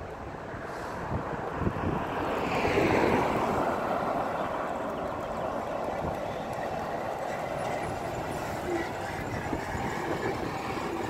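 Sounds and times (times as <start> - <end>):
passing vehicle tyres and engine: 0.0 - 11.0
wind on the microphone: 0.0 - 11.0.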